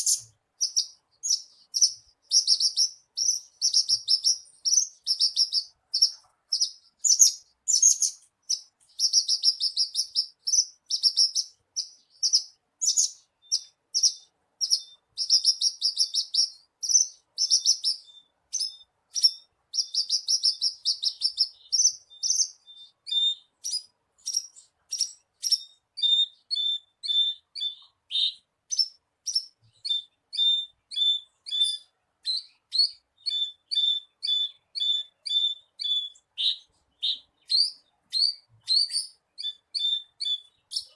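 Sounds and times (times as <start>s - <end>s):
bird chirping: 0.0s - 40.9s
bird singing trilled phrases: 0.0s - 40.9s.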